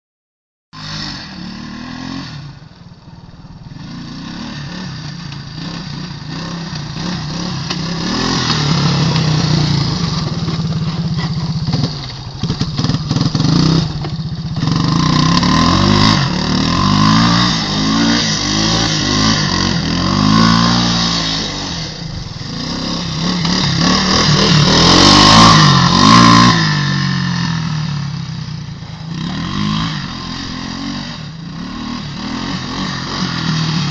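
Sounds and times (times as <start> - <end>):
engine revving: 0.8 - 2.7, 3.7 - 28.5, 29.1 - 33.9.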